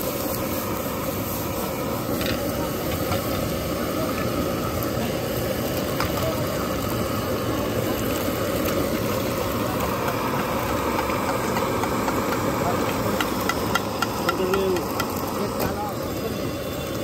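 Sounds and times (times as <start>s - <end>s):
eggs sizzling in frying pan: 0.0s - 17.0s
gas burner rushing: 0.0s - 17.0s.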